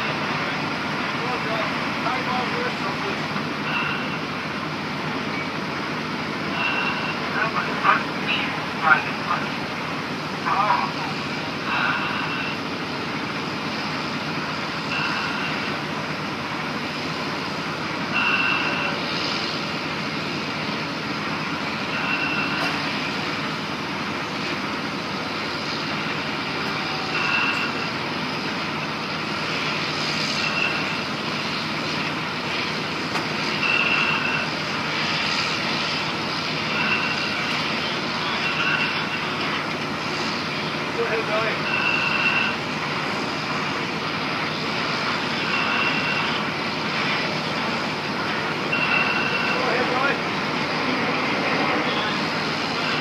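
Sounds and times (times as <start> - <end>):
heavy construction machinery drone: 0.0 - 53.0.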